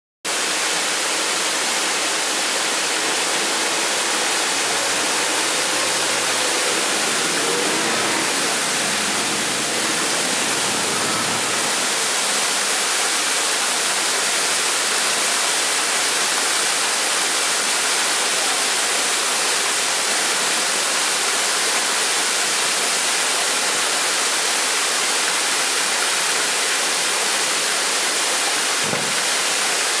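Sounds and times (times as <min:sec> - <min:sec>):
waterfall rushing into pool: 0:00.3 - 0:30.0.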